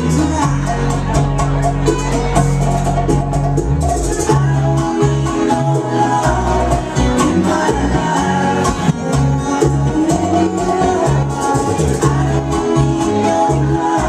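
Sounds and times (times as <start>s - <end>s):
bachata music with guitar and bass: 0.0s - 14.0s.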